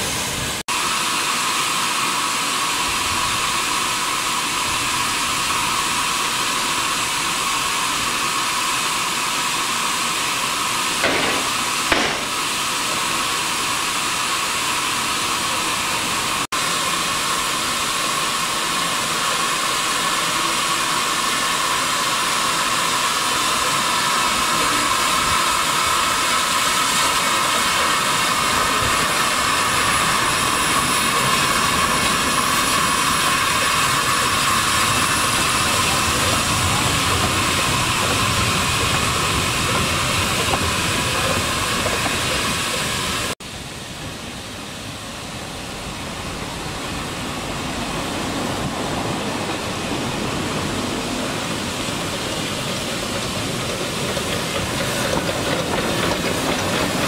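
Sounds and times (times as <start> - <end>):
steam locomotive hissing: 0.0 - 57.0.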